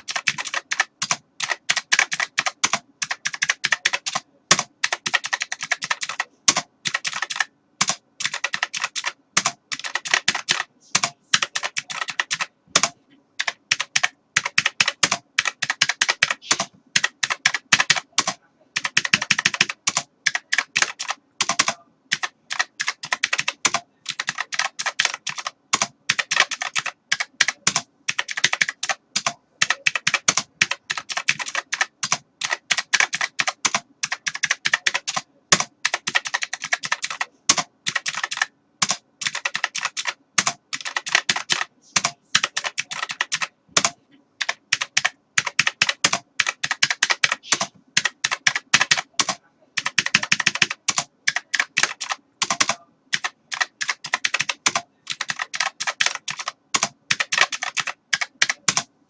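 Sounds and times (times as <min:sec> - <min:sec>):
keyboard typing: 0:00.0 - 0:58.9.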